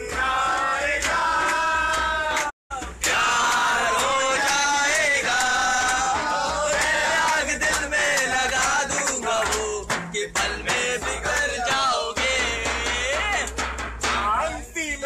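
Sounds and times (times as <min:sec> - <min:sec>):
group of men singing: 0:00.0 - 0:13.6
frame drum beats: 0:00.0 - 0:14.5.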